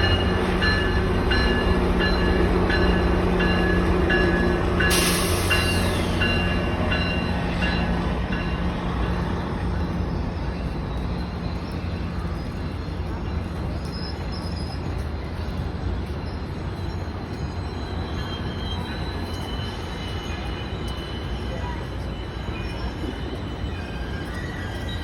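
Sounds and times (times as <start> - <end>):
locomotive bell ringing: 0.0 - 13.4, 16.4 - 25.0
locomotive engine hum: 0.0 - 25.0
train rolling: 0.0 - 25.0.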